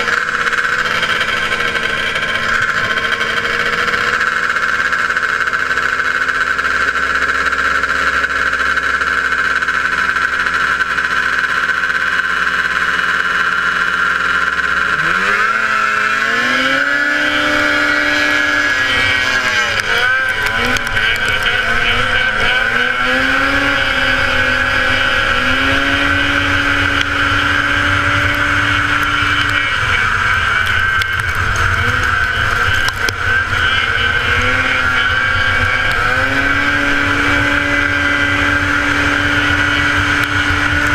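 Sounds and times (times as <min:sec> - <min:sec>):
snowmobile engine idling and revving: 0:00.0 - 0:40.9.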